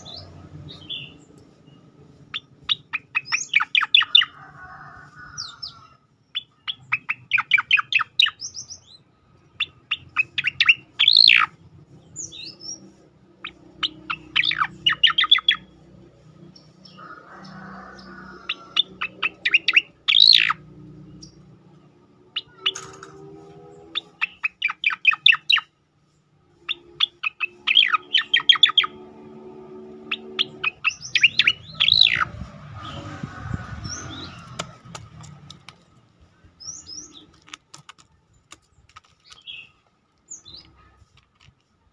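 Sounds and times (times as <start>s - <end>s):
bird singing rapid chipping song: 0.0s - 4.4s, 5.3s - 41.1s.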